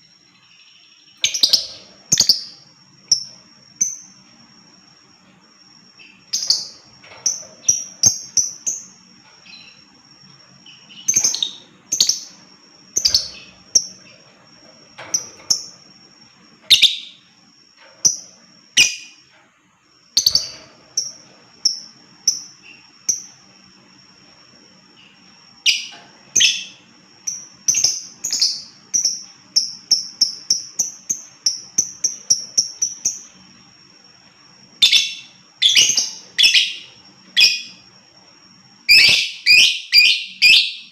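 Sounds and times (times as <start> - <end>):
lovebird chirping: 0.0 - 4.2, 5.9 - 14.2, 14.9 - 19.3, 20.1 - 23.4, 25.0 - 33.4, 34.8 - 37.9, 38.8 - 40.9.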